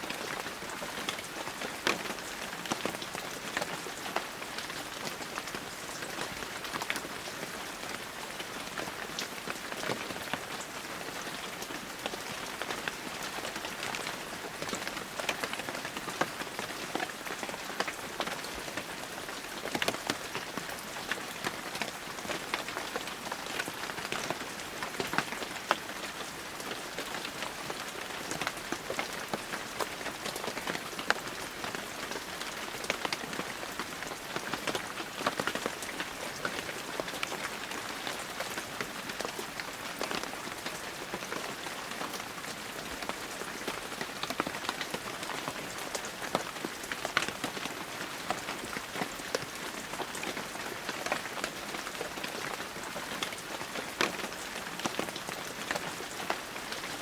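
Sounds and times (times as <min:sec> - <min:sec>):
heavy rain falling: 0:00.0 - 0:57.0
raindrops striking a surface: 0:00.0 - 0:57.0.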